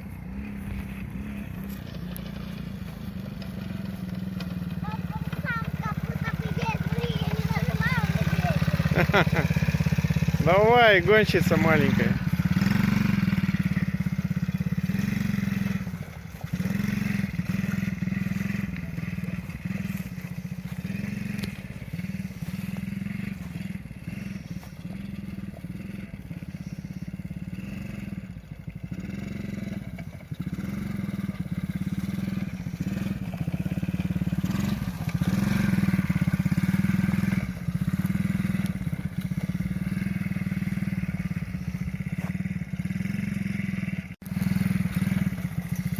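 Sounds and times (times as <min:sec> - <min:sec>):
small atv engine revving: 0:00.0 - 0:45.9.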